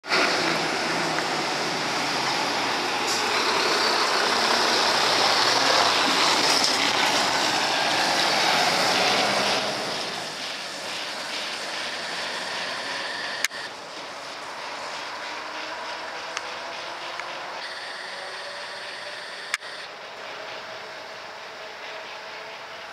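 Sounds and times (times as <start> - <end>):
fire engine driving away: 0.0 - 22.9.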